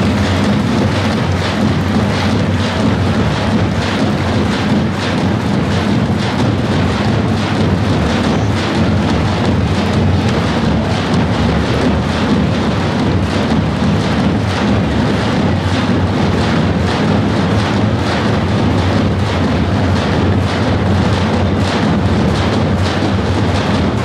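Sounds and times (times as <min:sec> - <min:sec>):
bass drums booming: 0:00.0 - 0:24.0.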